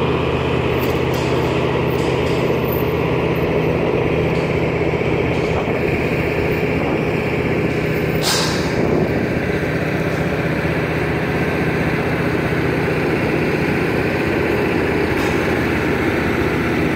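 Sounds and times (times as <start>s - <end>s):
crane engine running: 0.0s - 16.9s.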